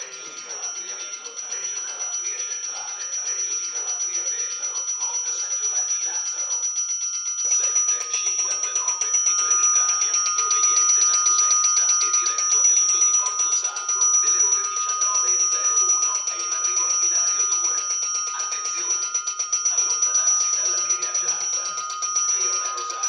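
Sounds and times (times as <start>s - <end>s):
railway warning bell ringing: 0.0s - 23.0s.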